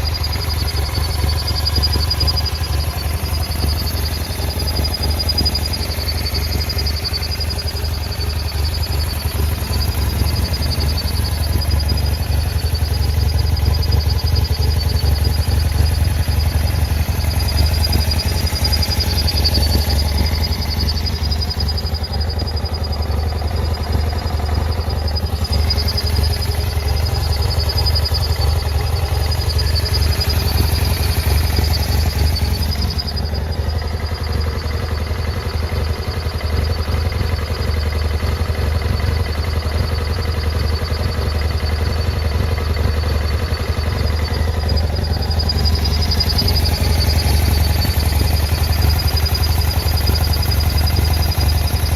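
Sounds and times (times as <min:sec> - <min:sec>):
motorcycle engine idling roughly: 0:00.0 - 0:51.9.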